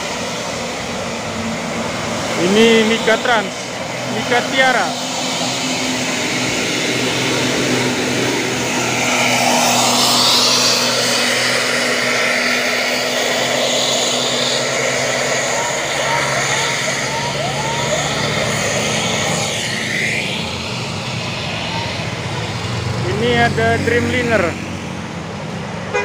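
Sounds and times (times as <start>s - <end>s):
rushing air noise: 0.0s - 25.9s
diesel bus engine driving past: 0.0s - 26.0s.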